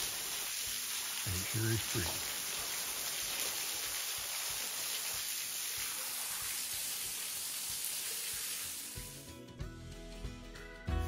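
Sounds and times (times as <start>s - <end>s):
small waterfall splashing on rocks: 0.0s - 9.1s.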